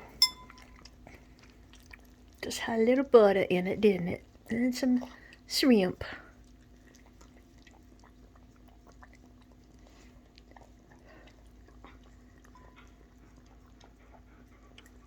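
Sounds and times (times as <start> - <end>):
dog licking food bowl: 0.1 - 15.0.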